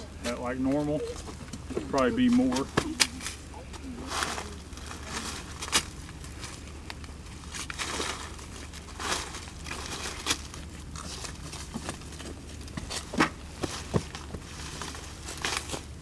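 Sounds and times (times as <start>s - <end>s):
hands rustling through soil: 0.0s - 16.0s.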